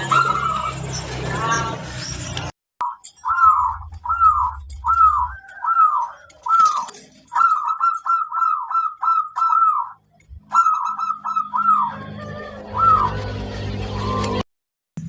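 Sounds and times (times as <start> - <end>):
dove cooing: 0.0 - 1.8, 2.8 - 13.3.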